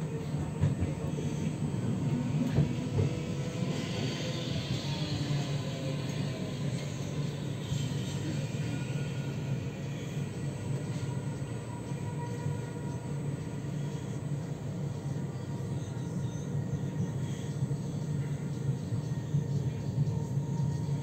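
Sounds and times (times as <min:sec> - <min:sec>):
tram rumbling on track: 0:00.0 - 0:21.0.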